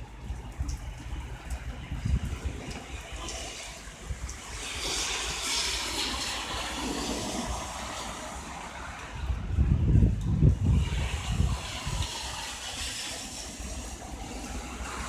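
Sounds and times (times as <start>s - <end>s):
steady rain falling: 0.0s - 15.0s
wind rumbling on microphone: 0.0s - 15.0s.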